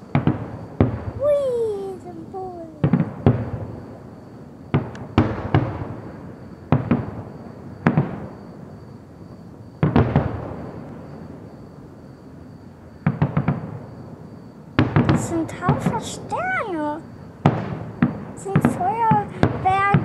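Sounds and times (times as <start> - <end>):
distant fireworks bangs: 0.0 - 11.9, 13.0 - 20.0.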